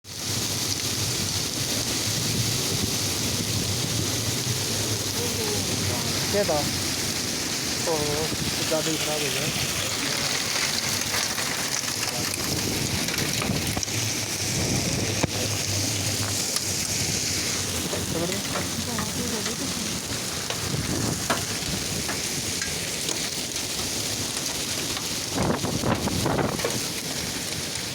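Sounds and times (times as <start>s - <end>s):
hailstones striking: 0.1s - 27.9s
heavy rain hissing: 0.1s - 27.9s.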